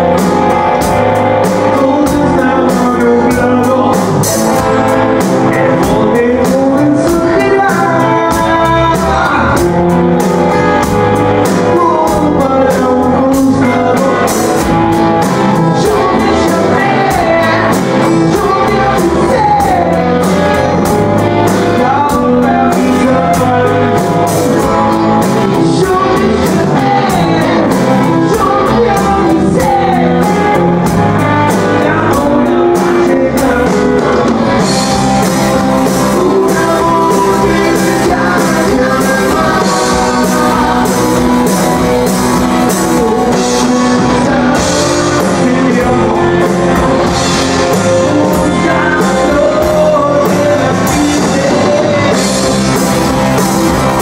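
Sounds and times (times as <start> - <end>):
drum kit: 0.0 - 54.0
electric guitars: 0.0 - 54.0
man singing into a microphone: 0.0 - 54.0.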